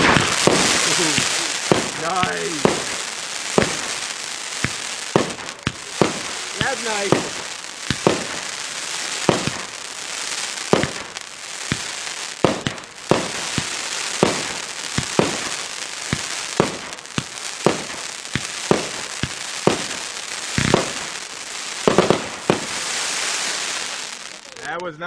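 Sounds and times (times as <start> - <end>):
firework shot bursts: 0.0 - 24.7
firework crackling hiss: 0.0 - 24.9.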